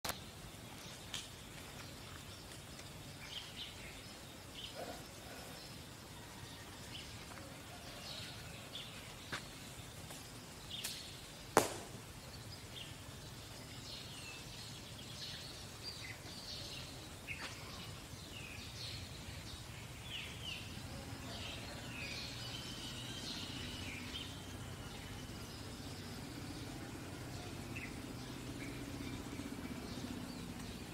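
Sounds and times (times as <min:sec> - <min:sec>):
faint outdoor background noise: 0:00.0 - 0:30.9.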